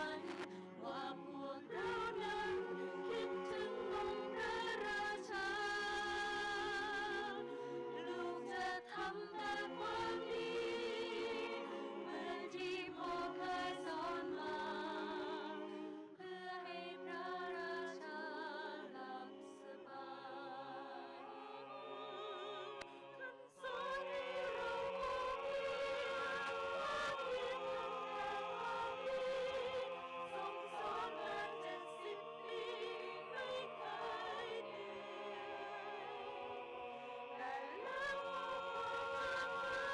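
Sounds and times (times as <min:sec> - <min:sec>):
mixed choir singing a cappella: 0:00.0 - 0:39.9.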